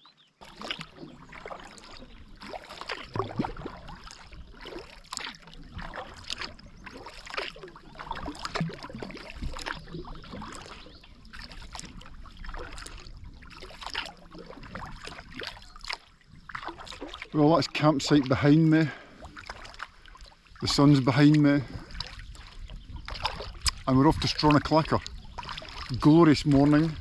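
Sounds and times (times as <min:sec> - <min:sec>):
paddle splashing in water: 0:00.4 - 0:27.0
water dripping off paddle: 0:00.4 - 0:27.0.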